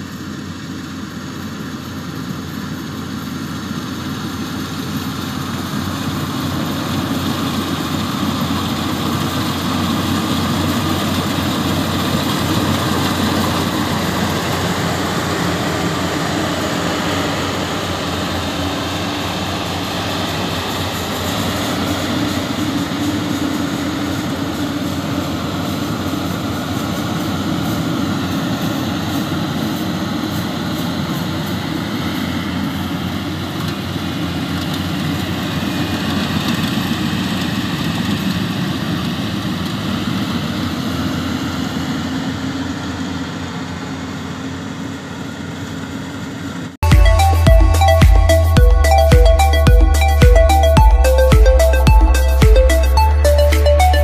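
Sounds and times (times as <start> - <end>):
machinery noise: 0.0 - 44.9, 46.8 - 54.0
combine harvester diesel drone: 0.0 - 54.0.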